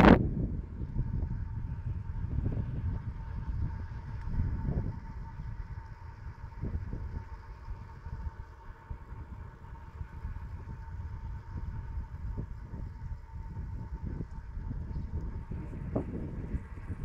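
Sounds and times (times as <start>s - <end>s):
faint high whine: 0.0s - 17.0s
road rumble: 0.0s - 17.0s
wind buffeting microphone: 0.0s - 17.0s.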